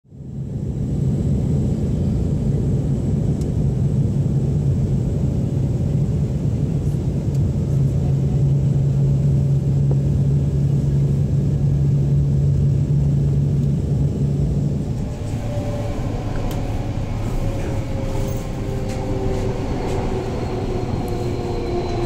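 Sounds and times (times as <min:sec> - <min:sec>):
constant low hum: 0:00.1 - 0:22.0
vehicle rumble: 0:03.2 - 0:22.0.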